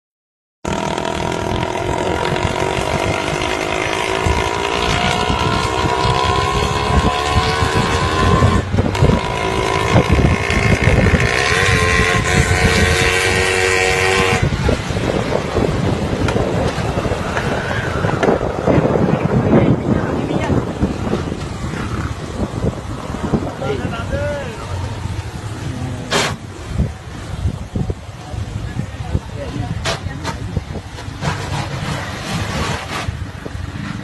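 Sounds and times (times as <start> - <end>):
engine humming: 0.6 - 34.0.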